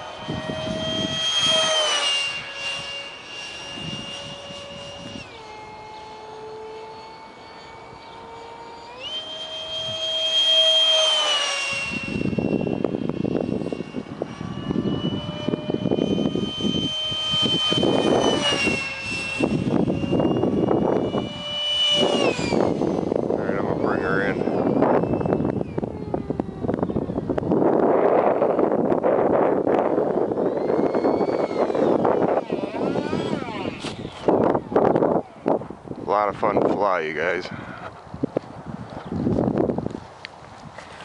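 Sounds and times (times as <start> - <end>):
electric ducted fan whining: 0.0 - 41.0.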